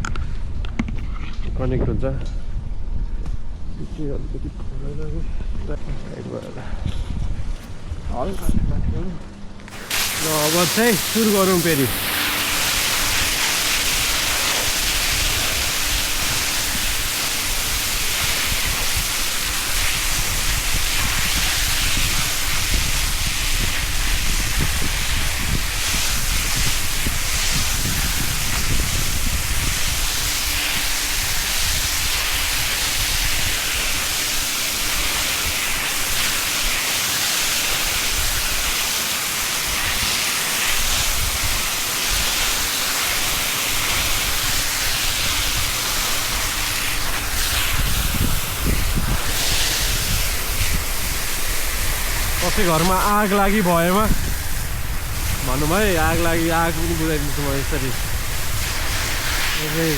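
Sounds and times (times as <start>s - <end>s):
hose jetting water: 9.7s - 59.9s.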